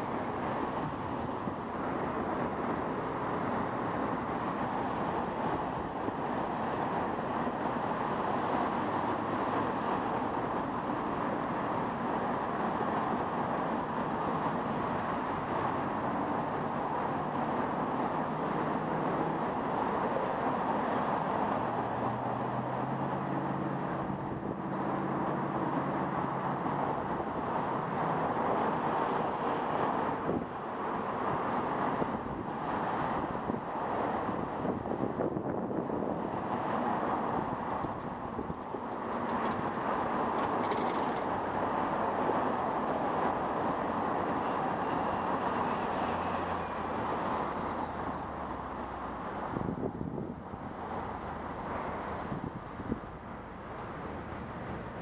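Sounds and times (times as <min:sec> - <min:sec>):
car traffic passing: 0:00.0 - 0:55.0
passing vehicle engine hum: 0:00.0 - 0:55.0
wind rushing on microphone: 0:00.0 - 0:55.0.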